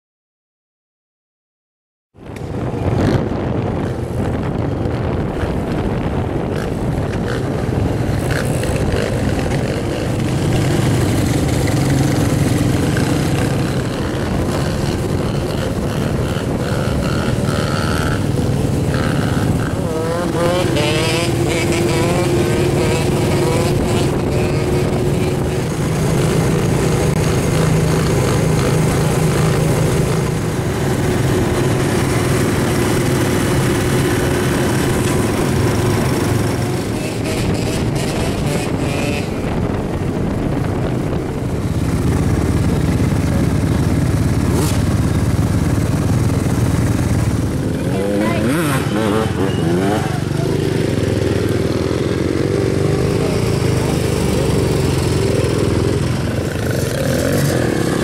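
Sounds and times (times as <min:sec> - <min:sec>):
atv engines running: 0:02.2 - 0:58.0.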